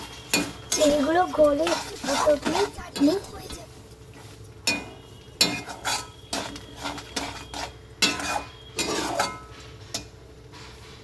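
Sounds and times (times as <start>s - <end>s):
metal spatula scraping metal pan: 0.0s - 3.2s, 4.7s - 10.8s.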